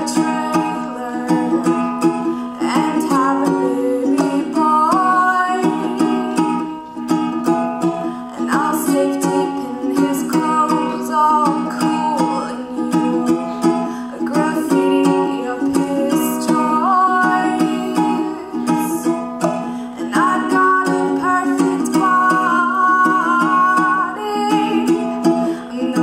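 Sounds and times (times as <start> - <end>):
strummed ukulele: 0.0 - 26.0
woman singing: 0.0 - 26.0.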